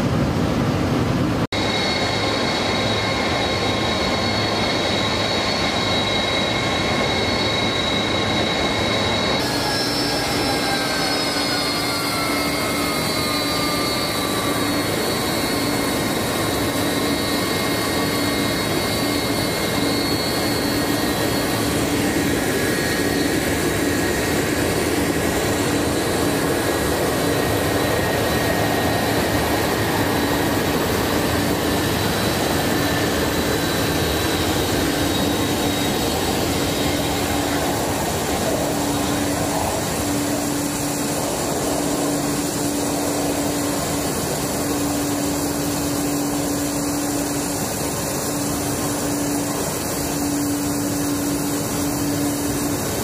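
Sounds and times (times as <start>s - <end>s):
jet engine noise: 0.0s - 53.0s.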